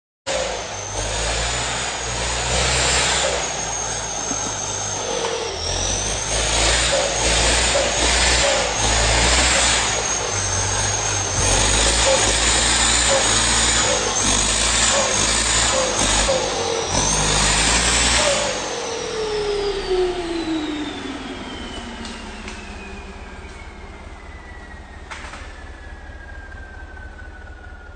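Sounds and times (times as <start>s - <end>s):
car engine revving: 0.3s - 27.9s
turbocharger whistle: 0.3s - 27.9s.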